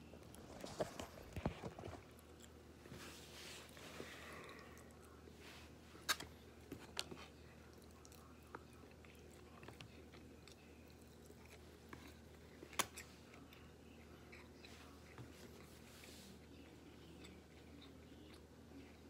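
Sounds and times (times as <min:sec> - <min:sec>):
person chewing food: 0:00.1 - 0:05.3, 0:05.9 - 0:19.0.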